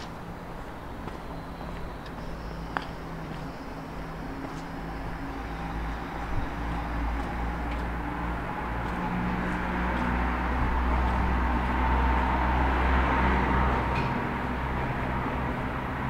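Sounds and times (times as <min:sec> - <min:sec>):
motor vehicle passing: 0:01.7 - 0:16.0.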